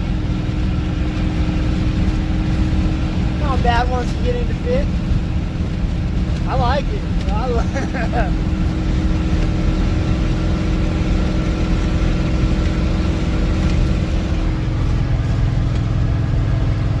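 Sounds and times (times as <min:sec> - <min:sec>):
diesel engine exhaust pulsing: 0:00.0 - 0:17.0.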